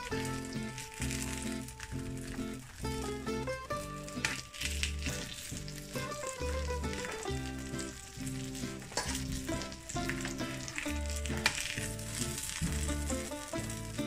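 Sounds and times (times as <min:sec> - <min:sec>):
background music with bass line: 0:00.0 - 0:14.0
patties sizzling on a griddle: 0:00.0 - 0:14.0.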